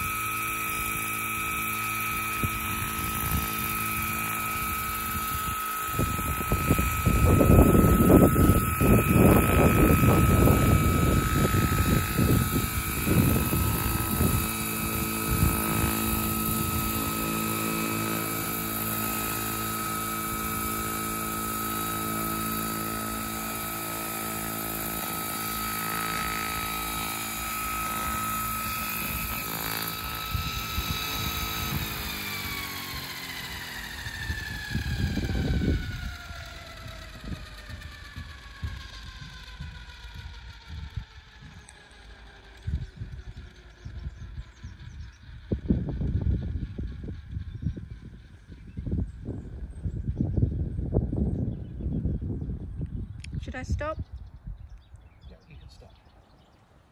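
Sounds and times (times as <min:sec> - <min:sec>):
model helicopter whine and rotors: 0:00.0 - 0:56.9.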